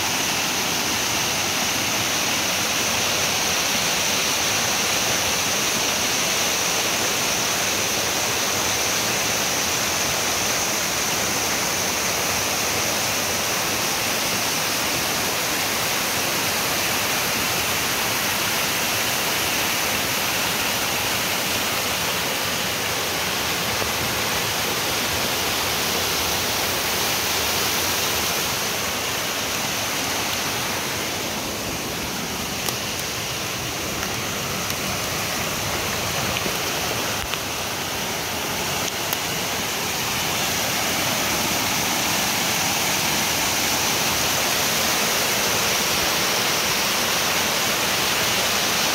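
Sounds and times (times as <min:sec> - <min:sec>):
waterfall and creek rushing: 0:00.0 - 0:48.9.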